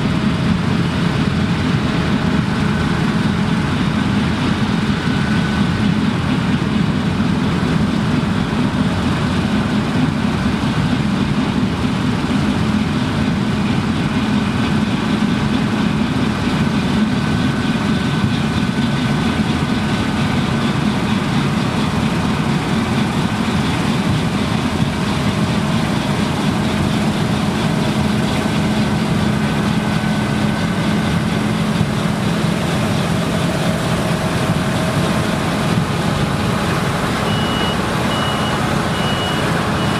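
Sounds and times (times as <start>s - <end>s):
combine harvester diesel engine: 0.0s - 39.9s
steady mechanical whine: 0.0s - 39.9s.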